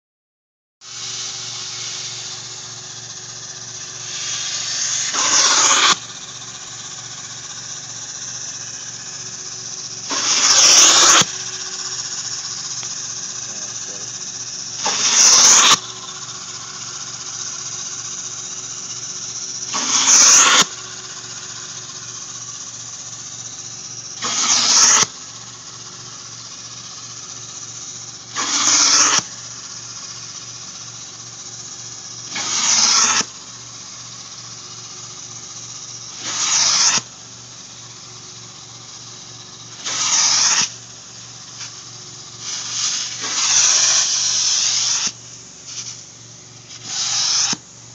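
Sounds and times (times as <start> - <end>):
spray and suction hiss: 0.8 - 47.6
extraction machine humming: 0.9 - 47.6.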